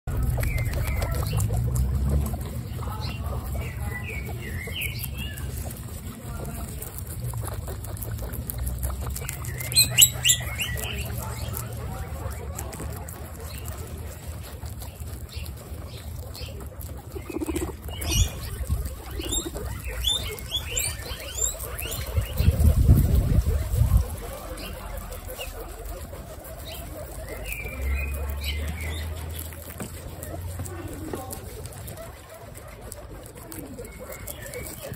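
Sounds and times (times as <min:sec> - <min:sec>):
guinea pigs crunching lettuce: 0:00.0 - 0:34.9.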